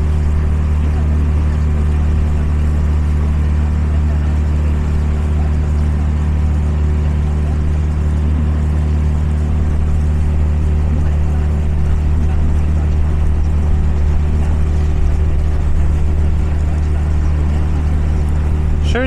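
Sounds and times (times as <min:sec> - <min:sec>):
outboard motor humming: 0:00.0 - 0:19.0
water rushing along hull: 0:00.0 - 0:19.0.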